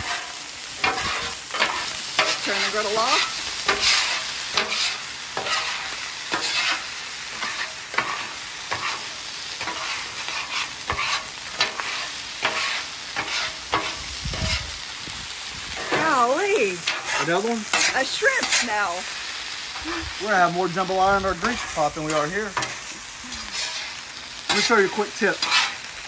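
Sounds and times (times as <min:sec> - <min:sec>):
metal spatula scraping griddle: 0:00.0 - 0:14.9, 0:15.5 - 0:26.0
food sizzling: 0:00.0 - 0:26.0.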